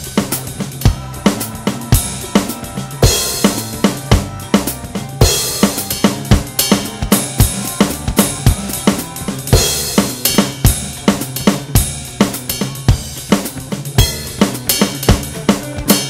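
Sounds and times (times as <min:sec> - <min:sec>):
backing song with bass line: 0:00.0 - 0:16.0
electronic drum kit groove: 0:00.0 - 0:16.0.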